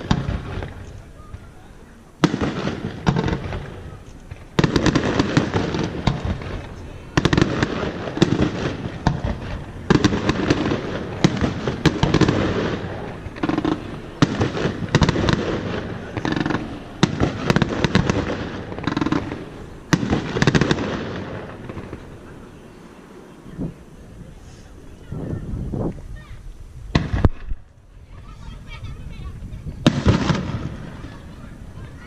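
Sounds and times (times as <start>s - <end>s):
fireworks bangs and crackles: 0.0s - 32.0s
fireworks rolling booms: 0.0s - 32.0s.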